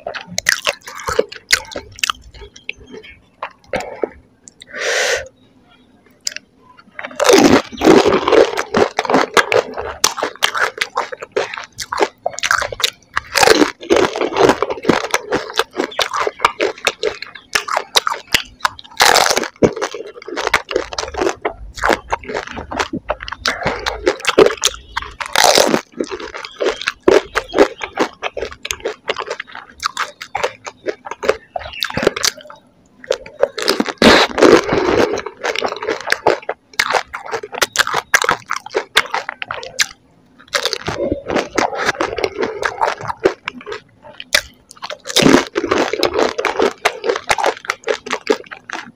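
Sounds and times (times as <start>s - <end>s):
wet squishy chewing: 0.0s - 4.8s, 6.1s - 48.9s
crisp shells cracking between teeth: 7.1s - 48.9s.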